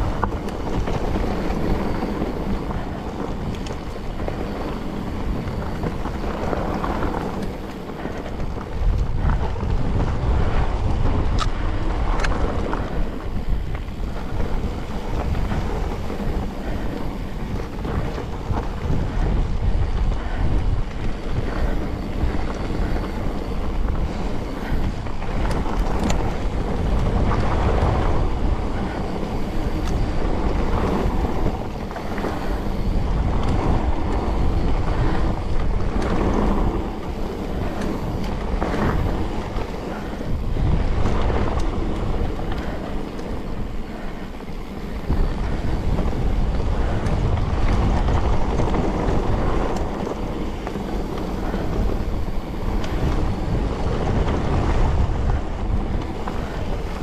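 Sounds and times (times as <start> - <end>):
bike clicks and rattles: 0.0 - 57.0
wind buffeting microphone: 0.0 - 57.0.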